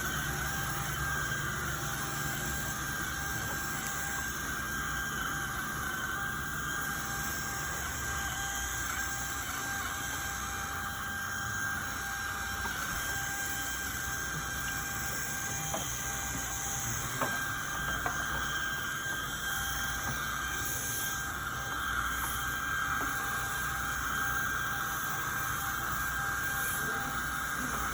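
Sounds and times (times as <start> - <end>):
carpet cleaning machine whining: 0.0 - 27.9.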